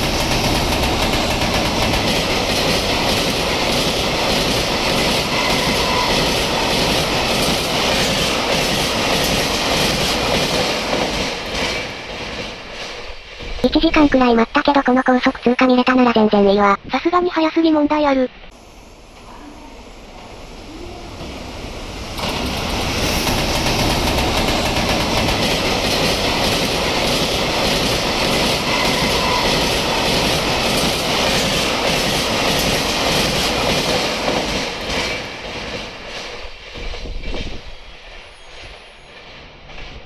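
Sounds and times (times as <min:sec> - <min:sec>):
freight train passing: 0:00.0 - 0:16.5, 0:17.3 - 0:40.0.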